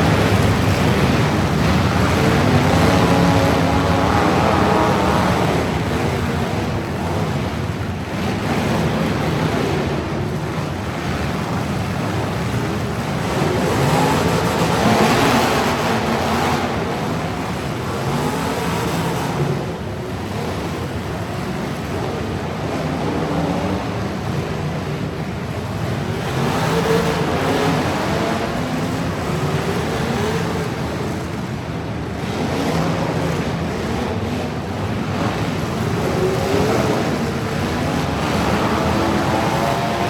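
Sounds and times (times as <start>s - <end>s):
truck engines revving: 0.0s - 40.0s.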